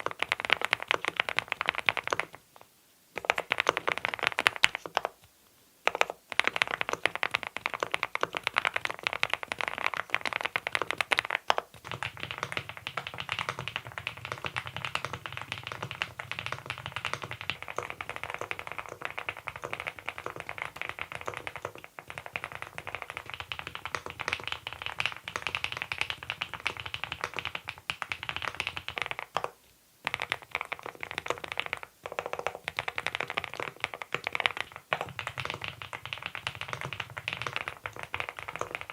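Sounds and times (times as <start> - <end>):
mechanical keyboard typing: 0.0 - 2.4, 3.2 - 5.2, 5.8 - 38.9.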